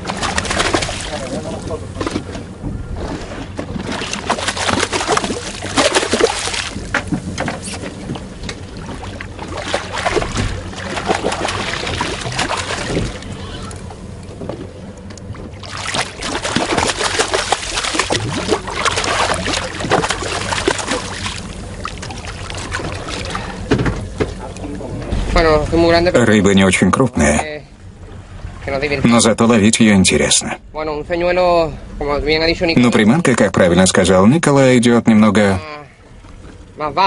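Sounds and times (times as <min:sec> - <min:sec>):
water sloshing against boat hull: 0:00.0 - 0:29.6, 0:35.9 - 0:37.0.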